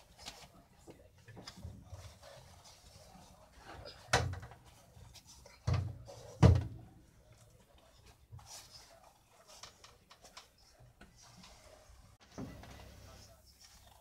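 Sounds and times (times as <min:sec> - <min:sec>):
faint handling sounds: 0:00.0 - 0:14.0.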